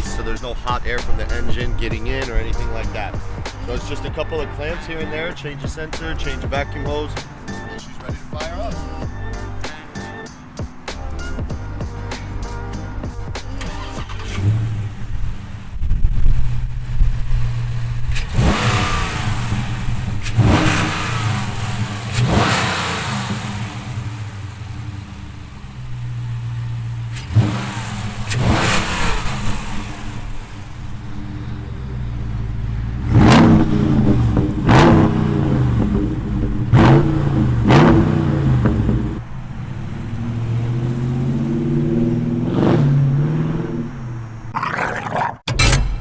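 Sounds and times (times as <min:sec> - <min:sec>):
engine idling and revving: 0:00.0 - 0:44.6.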